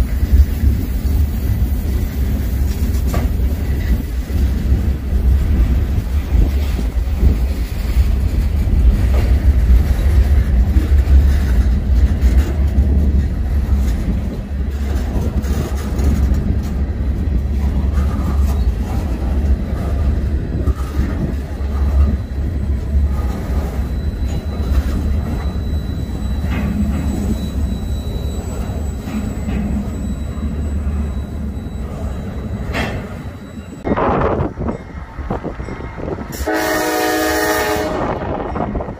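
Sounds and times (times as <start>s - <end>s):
freight train rumbling on rails: 0.0s - 38.9s.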